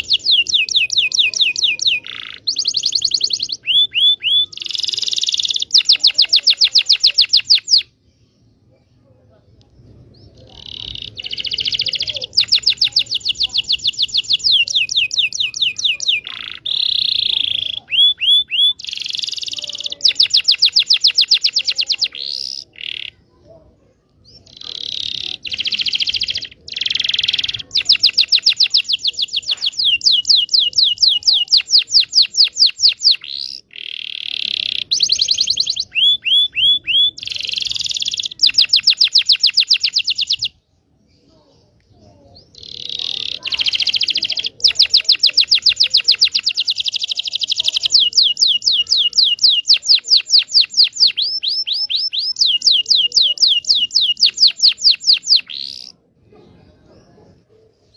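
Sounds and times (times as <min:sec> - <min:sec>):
canary singing trills: 0:00.0 - 0:08.7, 0:09.8 - 0:23.6, 0:24.2 - 0:57.9
canary chirps: 0:00.0 - 0:08.8, 0:09.6 - 0:57.9.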